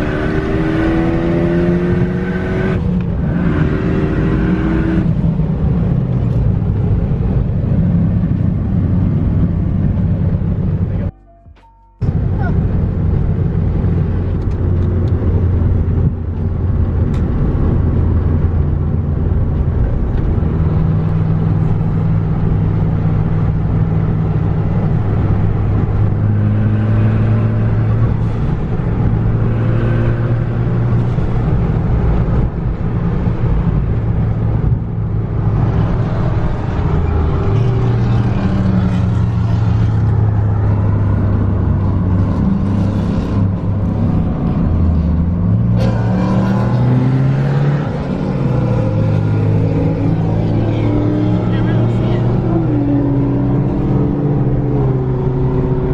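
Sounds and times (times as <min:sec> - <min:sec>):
car engine droning: 0:00.0 - 0:55.9
road noise: 0:00.0 - 0:55.9.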